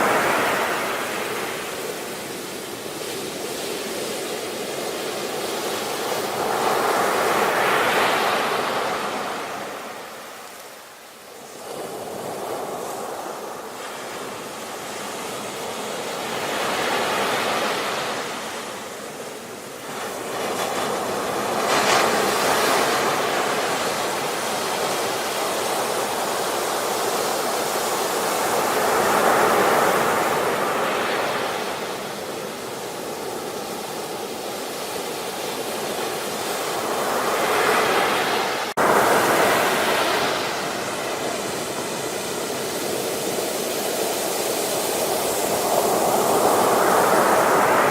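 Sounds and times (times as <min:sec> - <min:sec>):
waves breaking on shore: 0:00.0 - 0:47.9.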